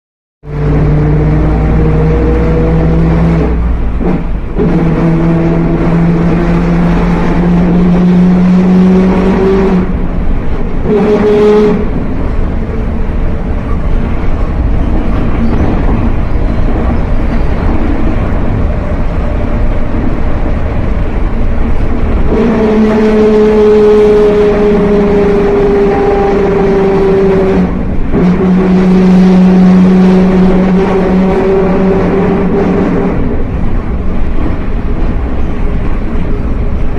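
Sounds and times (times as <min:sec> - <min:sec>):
bus driving: 0:00.4 - 0:36.9.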